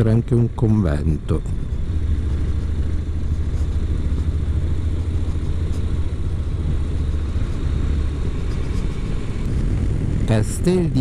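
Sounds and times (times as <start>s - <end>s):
motorcycle engine rumbling: 0.0s - 11.0s
wind noise: 0.0s - 11.0s.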